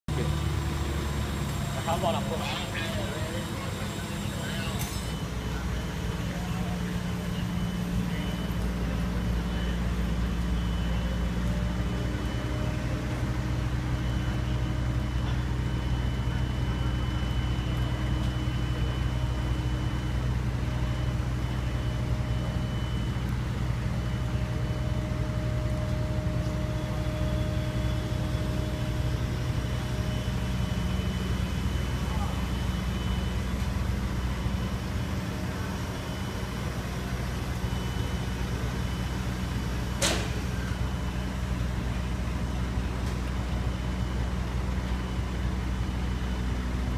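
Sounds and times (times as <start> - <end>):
crane diesel engine droning: 0.0 - 46.9.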